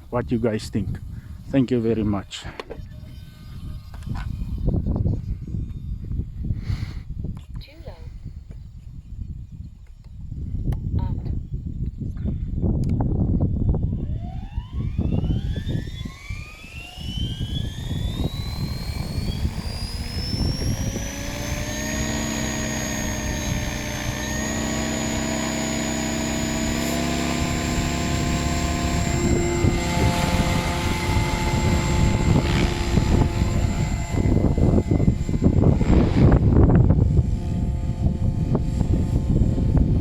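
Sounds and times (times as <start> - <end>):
rc helicopter rotor whine: 0.0 - 8.4, 9.2 - 40.0
wind buffeting microphone: 0.0 - 40.0.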